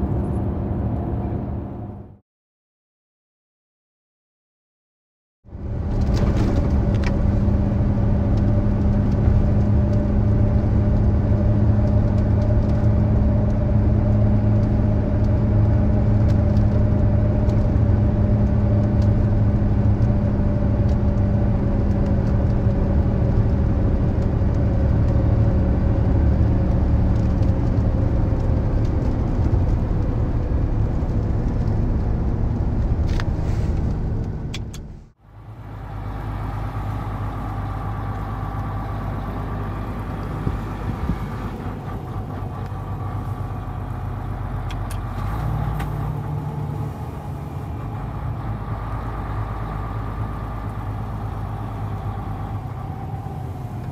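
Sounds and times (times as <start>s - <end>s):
road rumble: 0.0s - 2.2s, 5.4s - 53.9s
truck engine drone: 0.0s - 2.2s, 5.5s - 53.9s.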